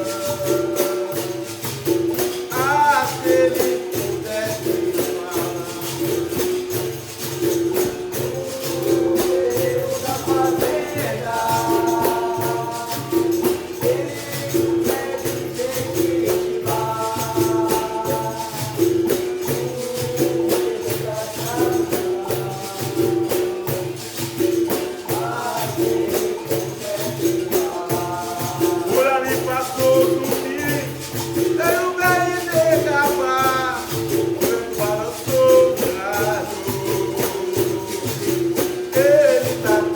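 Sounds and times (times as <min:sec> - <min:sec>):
low hand drum: 0:00.0 - 0:39.9
pandeiro jingles: 0:00.0 - 0:39.9
sung call and chorus: 0:00.0 - 0:39.9.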